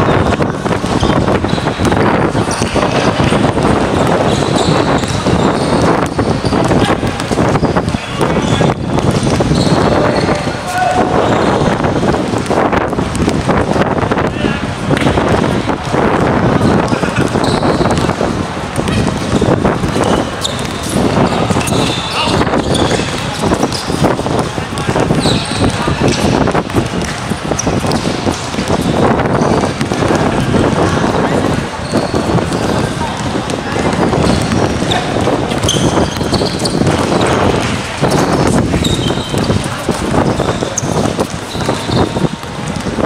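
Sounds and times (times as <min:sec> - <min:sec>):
background rush of noise: 0:00.0 - 0:43.0
basketballs bouncing on court: 0:00.0 - 0:43.0
players' voices: 0:00.0 - 0:43.0.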